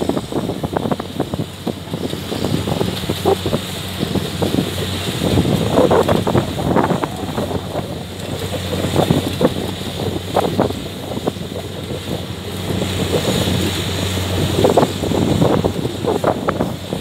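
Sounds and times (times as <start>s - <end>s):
combine harvester engine hum: 0.0s - 17.0s
wind buffeting microphone: 0.0s - 17.0s.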